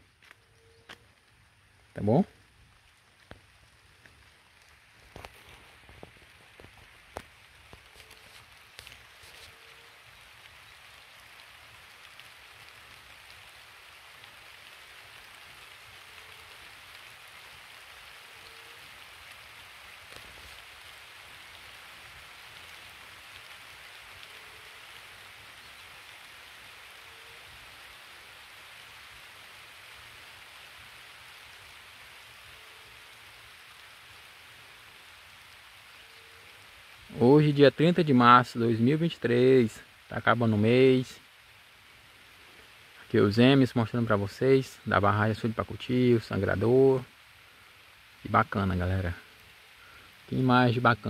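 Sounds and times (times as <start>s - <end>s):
light rain falling: 0.0s - 51.0s.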